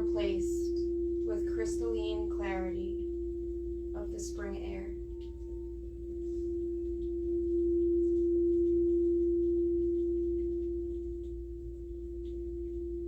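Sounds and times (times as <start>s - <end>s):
singing bowl tone: 0.0s - 13.0s.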